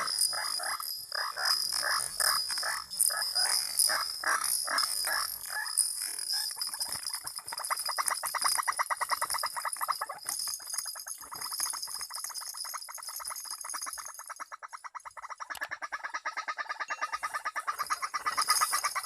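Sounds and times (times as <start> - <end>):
high-pitched ringing: 0.0 - 14.6, 16.8 - 19.0
animal rapid trilling call: 0.0 - 19.0.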